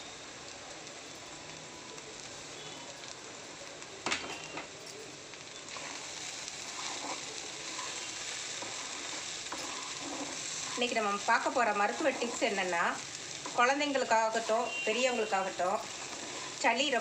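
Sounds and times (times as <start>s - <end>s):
rice frying with sizzle: 0.0s - 17.0s.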